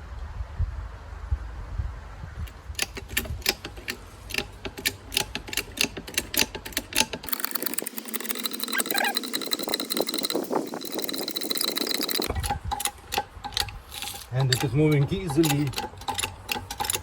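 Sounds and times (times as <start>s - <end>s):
press clicking metallically: 2.5s - 17.0s.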